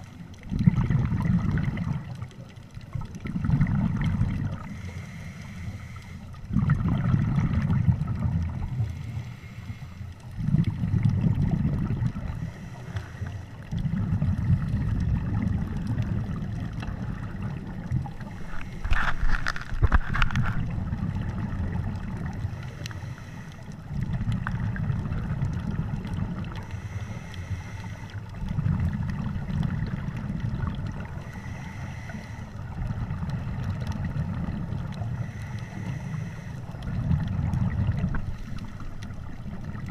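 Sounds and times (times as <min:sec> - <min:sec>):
underwater exhale bubbling: 0:00.0 - 0:39.9.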